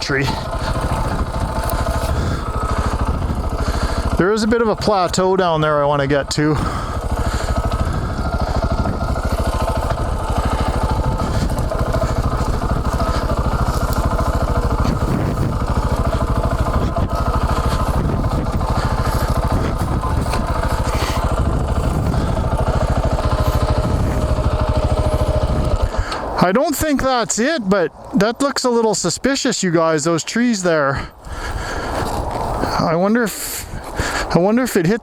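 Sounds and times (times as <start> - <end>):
motorcycle engine idling: 0.0 - 28.4, 30.8 - 35.0.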